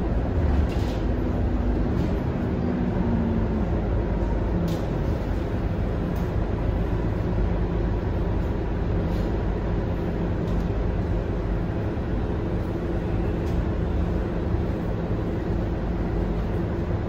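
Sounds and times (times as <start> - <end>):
bus diesel engine drone: 0.0 - 17.0
road noise: 0.0 - 17.0.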